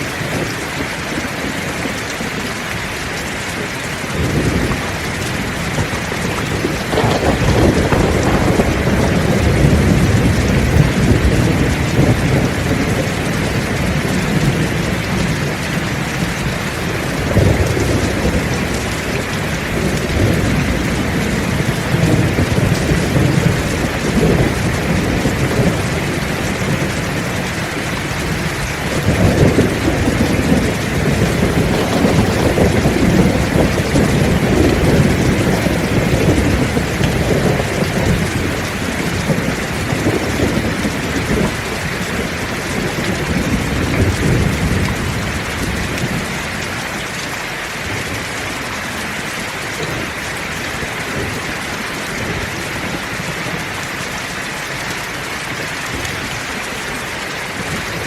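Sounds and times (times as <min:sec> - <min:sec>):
thunder rumbling: 0:00.0 - 0:47.2
heavy rain pouring: 0:00.0 - 0:58.0.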